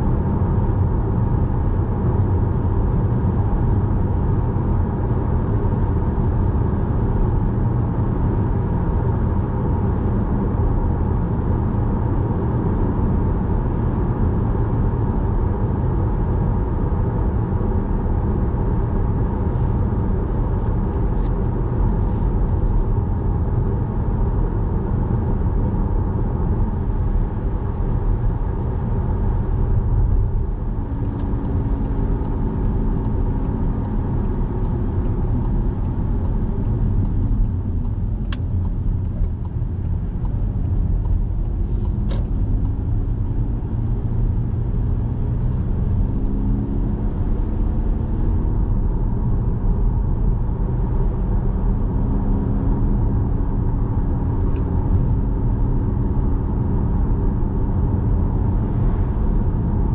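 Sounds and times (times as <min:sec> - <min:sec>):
car tyre and engine rumble: 0:00.0 - 0:59.9.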